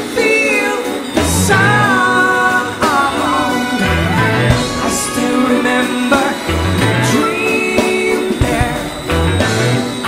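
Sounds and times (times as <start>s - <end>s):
song with singing voice: 0.0s - 10.0s.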